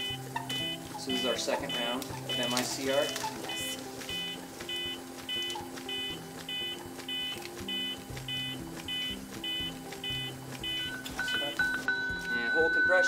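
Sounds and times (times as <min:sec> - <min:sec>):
electronic metronome beeps: 0:00.0 - 0:13.0
soft background music: 0:00.0 - 0:13.0.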